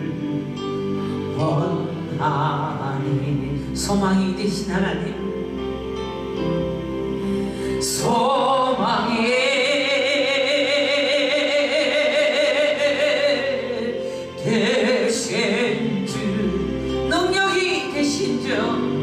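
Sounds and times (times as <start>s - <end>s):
person singing with vibrato: 0.0s - 5.6s, 7.3s - 19.0s
keyboard accompaniment: 0.0s - 19.0s.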